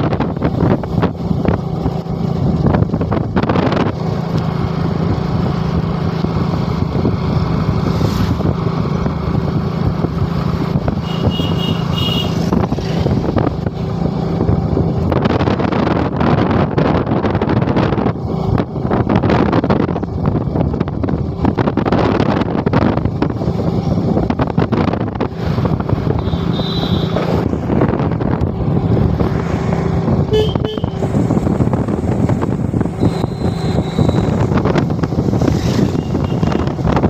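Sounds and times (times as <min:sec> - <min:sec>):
wind buffeting microphone: 0:00.0 - 0:11.4, 0:12.3 - 0:37.0
motorcycle engine hum: 0:00.0 - 0:37.0.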